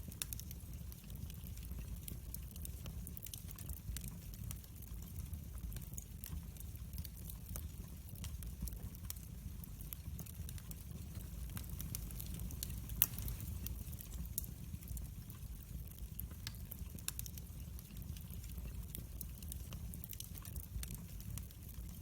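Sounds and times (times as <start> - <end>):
fire crackles and pops: 0.0 - 22.0
wood fire rumbling: 0.0 - 22.0.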